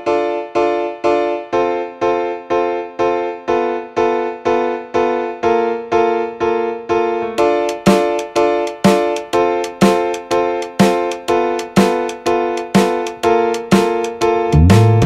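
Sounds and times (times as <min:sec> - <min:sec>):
electric piano playing chords: 0:00.0 - 0:15.0.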